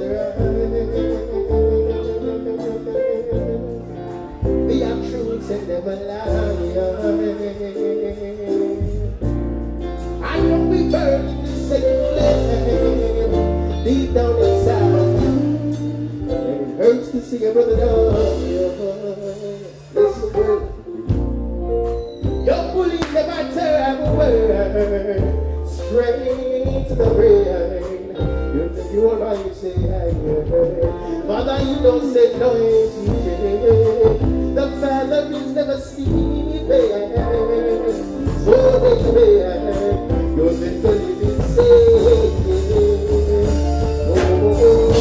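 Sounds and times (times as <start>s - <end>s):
man singing into a microphone: 0.0s - 9.3s, 10.2s - 21.3s, 22.3s - 45.0s
deep held bass line: 0.0s - 45.0s.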